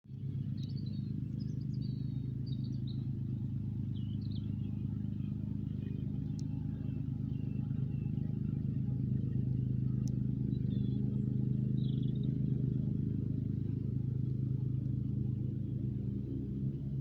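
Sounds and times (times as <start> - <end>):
engine idling: 0.1 - 17.0
small birds chirping: 0.1 - 17.0.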